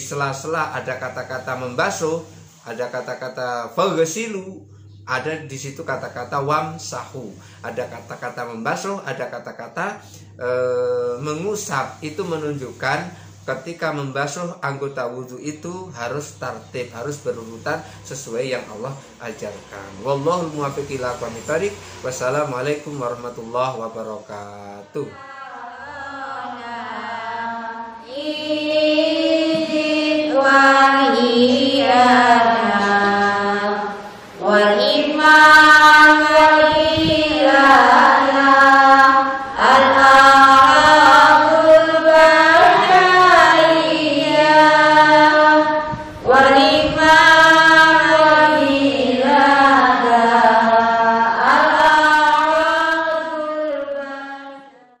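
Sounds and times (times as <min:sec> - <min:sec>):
melodic vocal chanting: 0:00.0 - 0:55.0.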